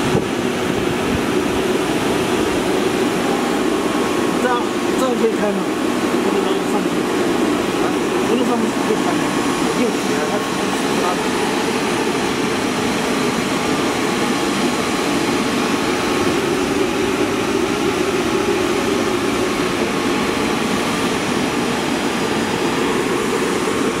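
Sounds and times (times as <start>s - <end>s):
workshop machinery running: 0.0s - 24.0s.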